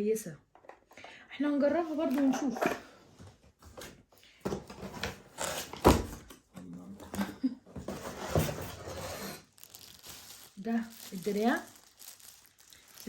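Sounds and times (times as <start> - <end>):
cardboard and plastic packaging rustling: 1.7 - 13.0.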